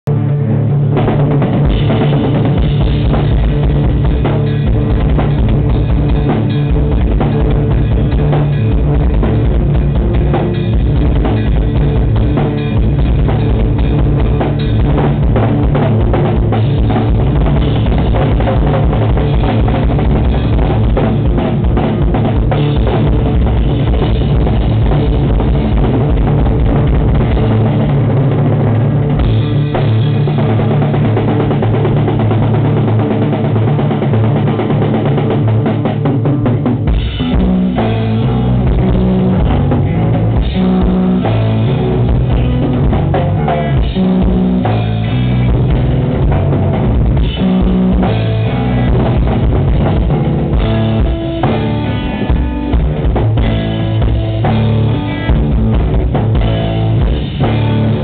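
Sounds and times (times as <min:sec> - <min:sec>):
busy drum kit: 0:00.0 - 0:58.0
rock band playing live: 0:00.0 - 0:58.0.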